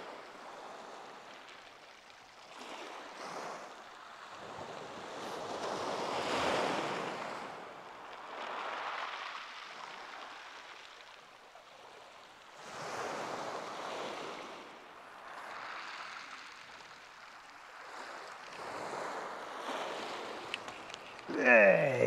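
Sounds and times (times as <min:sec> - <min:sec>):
waves breaking on shingle beach: 0:00.0 - 0:22.0.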